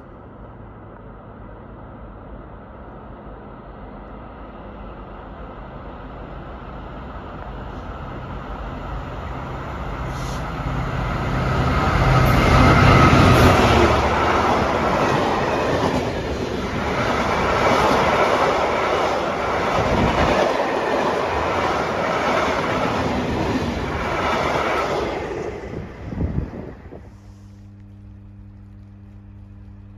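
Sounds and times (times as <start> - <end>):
locomotive engine drone: 0.0 - 29.9.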